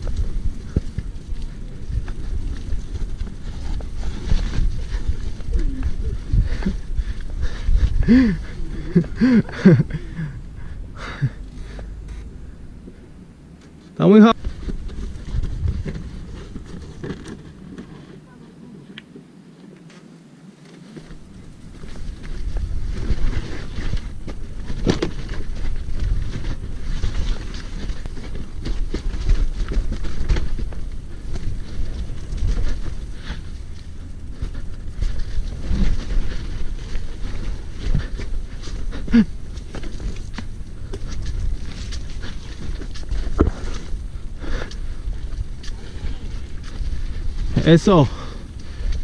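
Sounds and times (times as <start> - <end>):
bike knocking and rattling: 0.0 - 10.3, 14.4 - 18.1, 20.9 - 49.0
wind buffeting microphone: 0.0 - 13.5, 14.3 - 17.8, 21.1 - 49.0.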